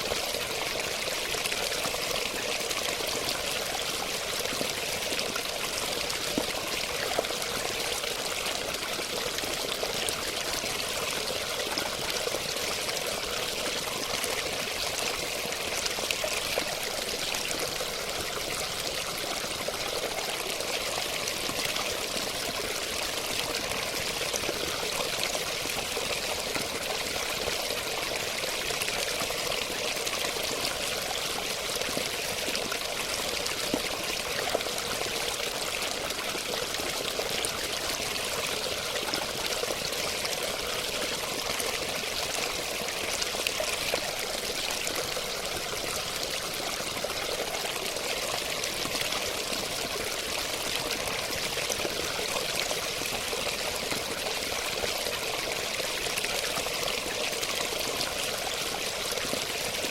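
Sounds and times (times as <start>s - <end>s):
running water pouring and splashing: 0.0s - 59.9s.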